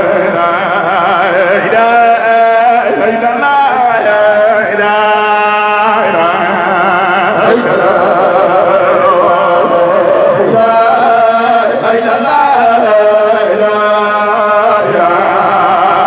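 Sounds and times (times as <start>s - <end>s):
man chanting through a microphone: 0.0s - 16.0s.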